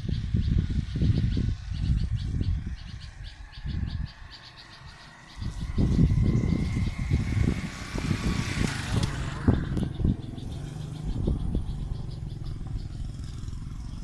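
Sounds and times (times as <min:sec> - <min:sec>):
distant low engine hum: 0:00.0 - 0:14.0
motorcycle passing by: 0:00.0 - 0:14.0.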